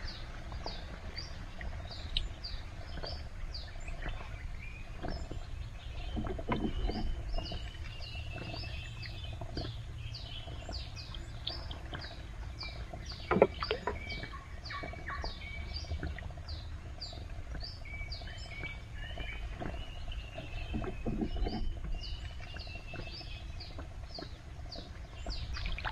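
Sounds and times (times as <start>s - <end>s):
low steady rumble: 0.0s - 25.9s.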